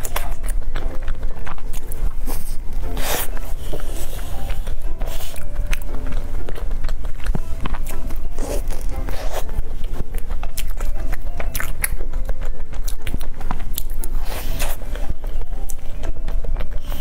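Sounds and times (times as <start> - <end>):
chewing pastry: 0.0 - 17.0.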